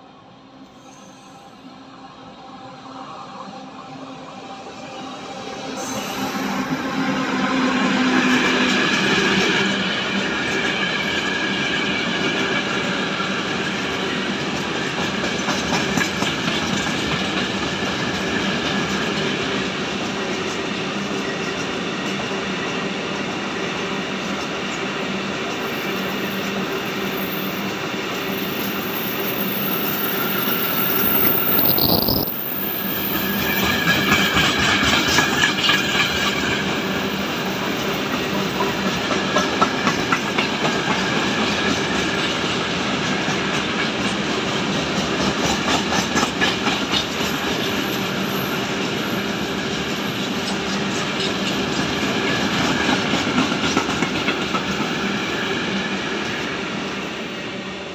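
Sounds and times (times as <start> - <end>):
ringing train wheels: 0.6 - 1.9, 4.0 - 57.6
freight train wheels rumbling: 2.6 - 57.9.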